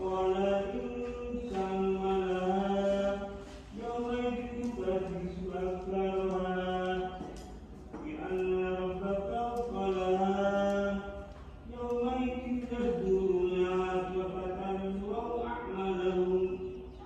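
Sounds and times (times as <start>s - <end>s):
man chanting prayer: 0.0s - 17.0s.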